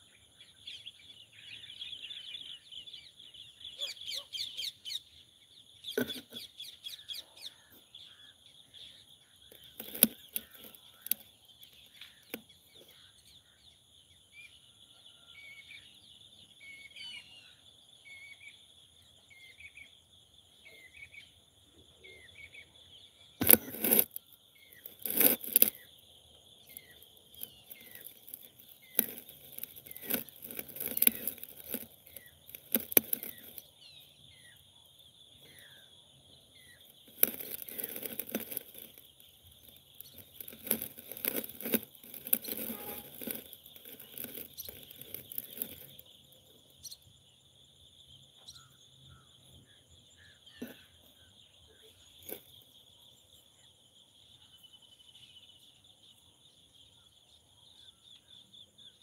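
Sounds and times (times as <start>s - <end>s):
bird chirping: 0.0s - 59.0s
insects droning: 0.0s - 59.0s.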